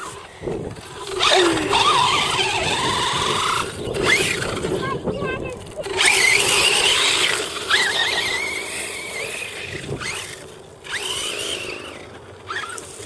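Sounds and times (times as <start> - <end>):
toy car motor whining: 0.0 - 13.0.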